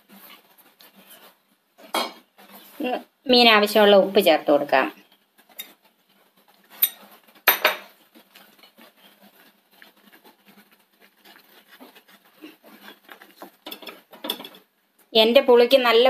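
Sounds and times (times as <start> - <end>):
wooden spatula scraping clay pot: 0.0 - 16.0.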